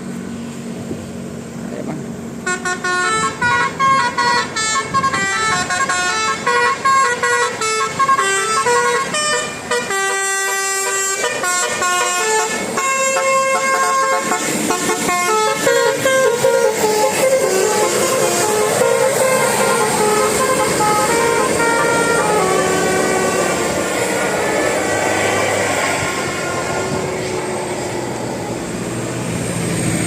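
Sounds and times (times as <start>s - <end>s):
bus horn playing a tune: 2.4s - 28.0s.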